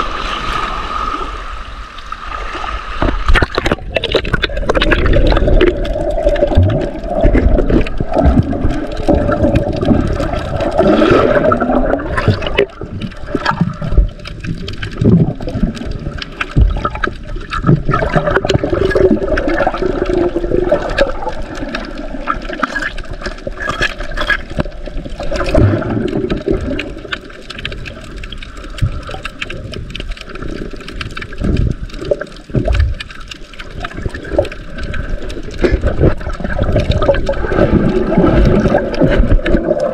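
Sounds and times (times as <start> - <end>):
muffled underwater gurgling: 3.3 - 39.9.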